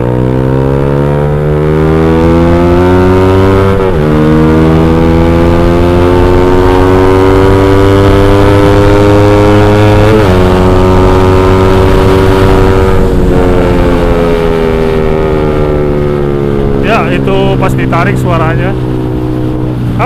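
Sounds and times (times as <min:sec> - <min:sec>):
motorcycle accelerating loudly: 0:00.0 - 0:20.0.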